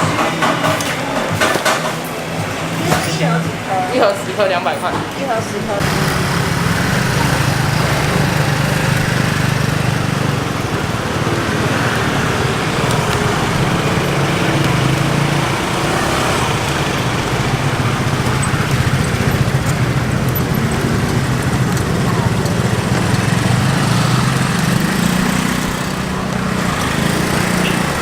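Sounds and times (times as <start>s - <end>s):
outdoor street noise: 0.0s - 28.0s
small engine droning: 5.4s - 28.0s.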